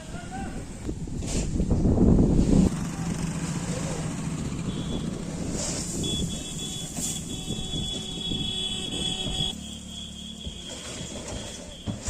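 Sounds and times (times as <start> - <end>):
diesel machinery rumbling: 1.6 - 12.0.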